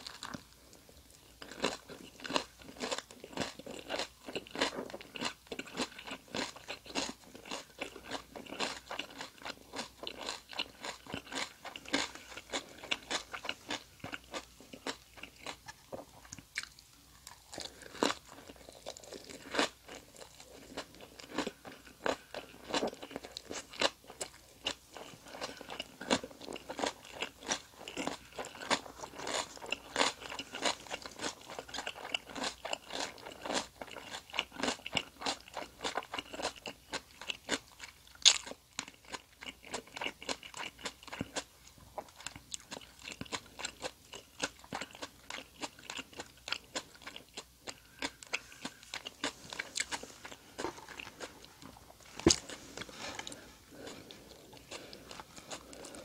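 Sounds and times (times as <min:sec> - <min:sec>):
chewing crunchy food: 0:00.0 - 0:56.0.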